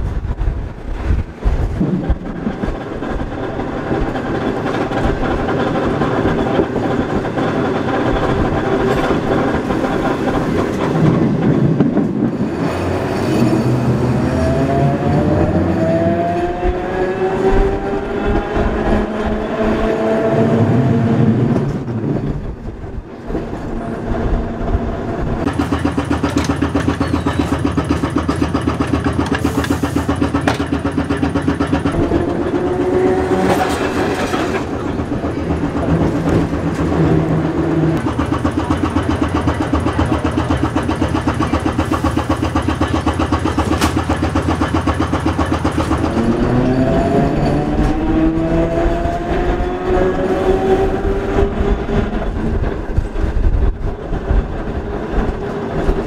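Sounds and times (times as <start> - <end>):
passing streetcar whine: 0.0 - 56.0
streetcar motor whine: 0.0 - 56.0.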